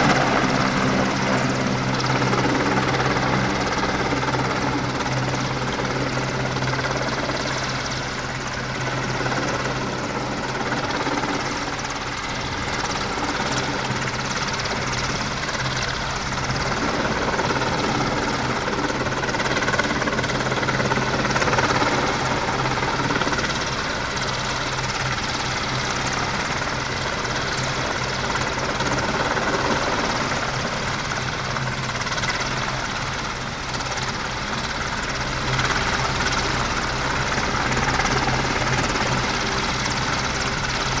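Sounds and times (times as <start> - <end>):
helicopter rotor and turbines: 0.0 - 41.0.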